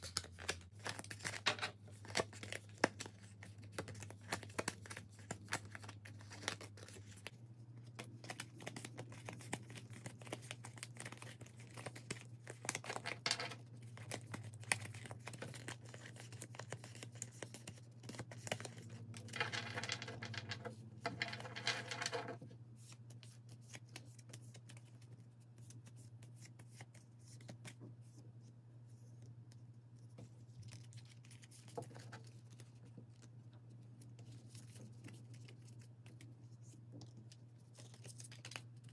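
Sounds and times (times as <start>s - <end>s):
playing cards flicking and rustling: 0.0s - 27.8s, 30.1s - 38.9s.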